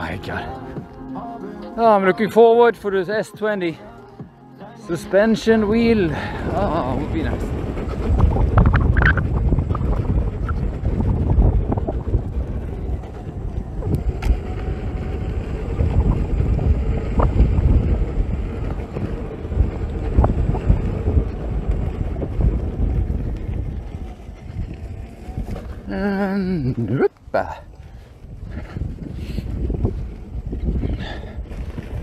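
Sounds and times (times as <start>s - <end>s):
wind rumbling on microphone: 4.9s - 32.0s.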